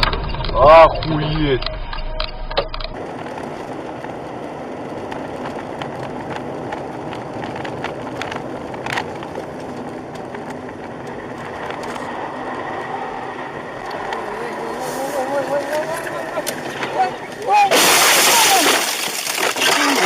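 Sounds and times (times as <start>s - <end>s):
road and engine noise: 0.0s - 20.0s.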